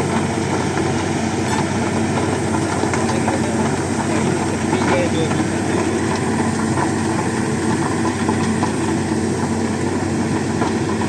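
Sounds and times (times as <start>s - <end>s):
heavy machine engine droning: 0.0s - 11.0s.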